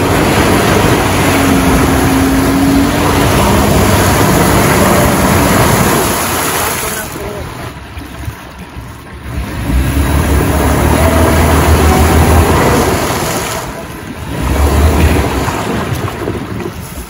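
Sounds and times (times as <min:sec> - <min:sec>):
car engine revving hard: 0:00.0 - 0:07.1, 0:09.2 - 0:16.5
wheel spinning in mud: 0:00.0 - 0:17.0.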